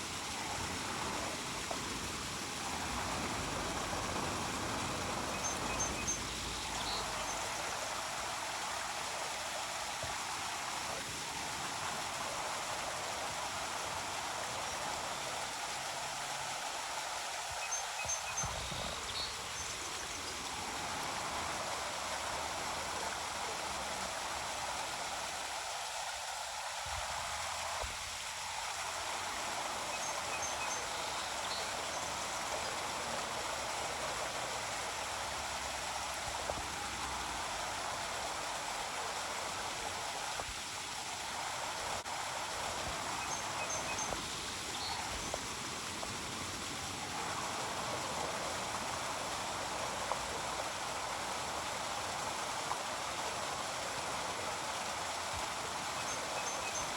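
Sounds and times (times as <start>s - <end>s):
brook water rushing: 0.0s - 56.9s.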